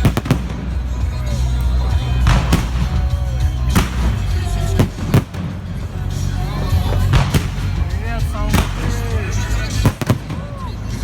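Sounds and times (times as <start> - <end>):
crowd voices: 0.0 - 11.0
fireworks bangs: 0.0 - 11.0
loud music: 0.0 - 11.0.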